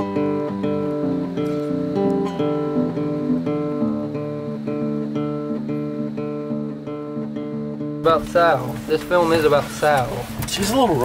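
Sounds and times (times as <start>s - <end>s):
acoustic guitar plucked notes: 0.0s - 11.0s.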